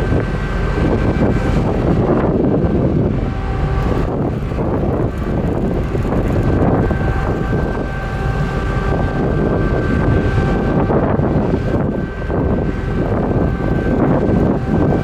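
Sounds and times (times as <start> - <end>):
machinery tones: 0.0 - 15.0
ship engines droning: 0.0 - 15.0
wind buffeting microphone: 0.0 - 15.0.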